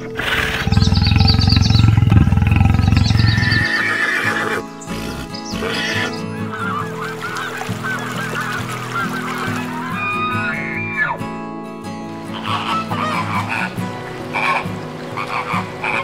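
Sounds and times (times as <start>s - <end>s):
geese honking: 0.0s - 11.2s, 12.3s - 16.0s
low pulsing animal call: 0.0s - 11.2s, 12.3s - 16.0s
background music: 0.0s - 16.0s.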